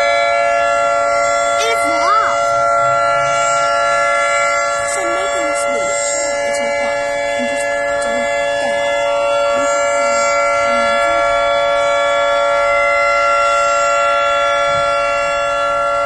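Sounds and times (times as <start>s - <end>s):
tornado siren steady chord: 0.0s - 16.0s.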